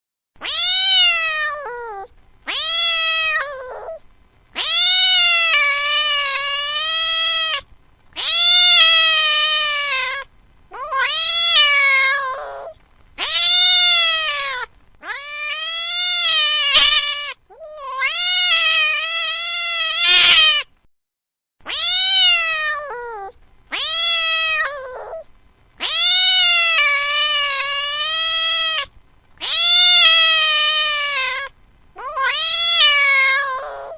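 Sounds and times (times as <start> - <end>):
cat meowing: 0.4 - 4.0, 4.6 - 20.7, 21.6 - 33.9.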